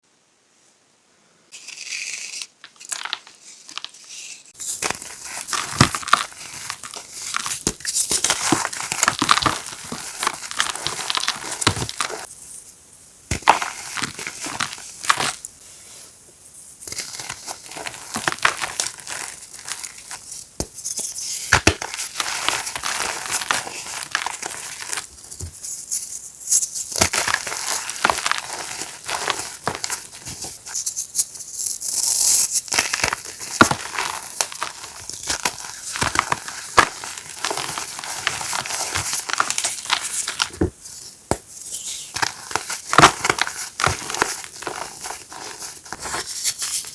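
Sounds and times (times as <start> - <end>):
chalk crunching and crumbling: 1.5 - 12.5, 13.3 - 46.9.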